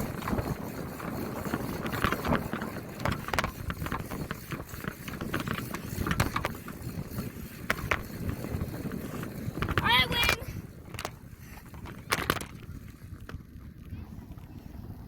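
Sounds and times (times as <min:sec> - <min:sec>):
bicycle rattles and clicks: 0:00.0 - 0:15.0
wind buffeting microphone: 0:00.0 - 0:15.0.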